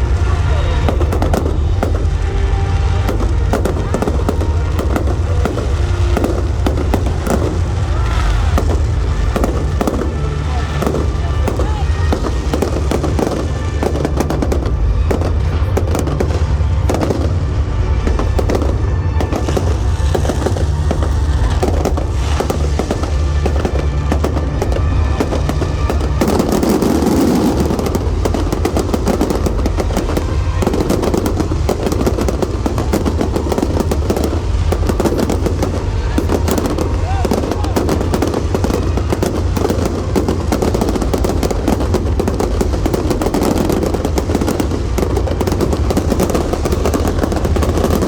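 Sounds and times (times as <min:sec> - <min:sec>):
fireworks bangs and crackles: 0:00.0 - 0:48.0
music playing: 0:00.0 - 0:48.0.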